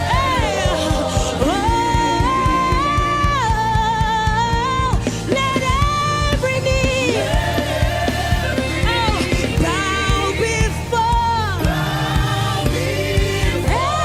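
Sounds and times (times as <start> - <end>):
band with steady drum beat: 0.0 - 14.0.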